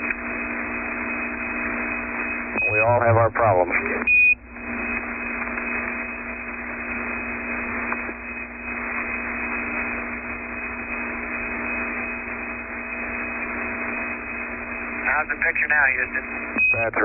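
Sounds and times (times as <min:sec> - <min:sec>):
faint radio hum: 0:00.0 - 0:17.0
radio channel hiss: 0:00.0 - 0:17.0.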